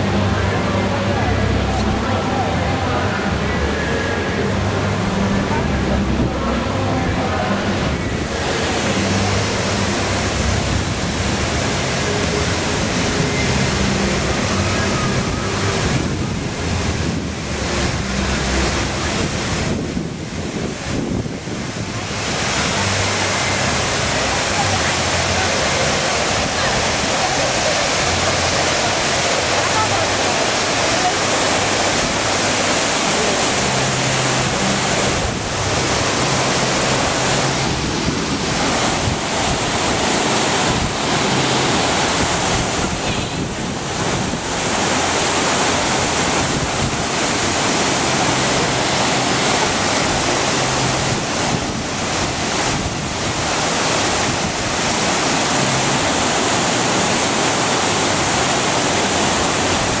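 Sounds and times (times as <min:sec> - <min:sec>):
fountain water pouring: 0:00.0 - 1:00.0.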